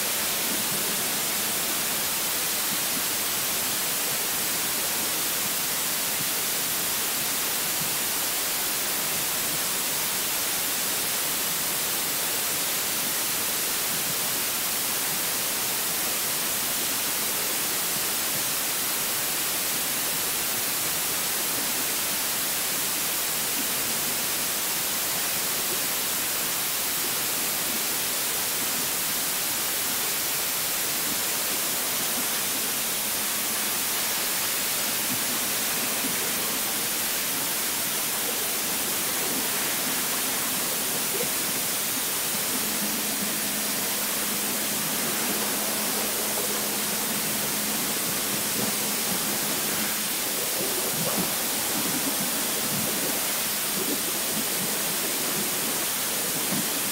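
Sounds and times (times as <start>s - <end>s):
high-pressure water jet hissing: 0.0s - 56.9s.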